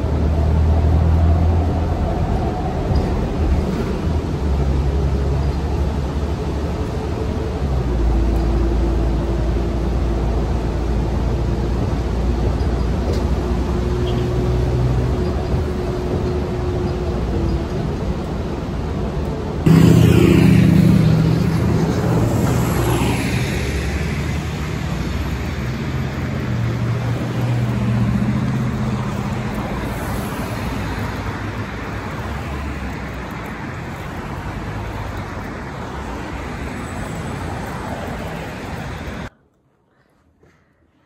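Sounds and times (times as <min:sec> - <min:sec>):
cars passing: 0:00.0 - 0:39.3
vehicle engine: 0:00.0 - 0:39.3.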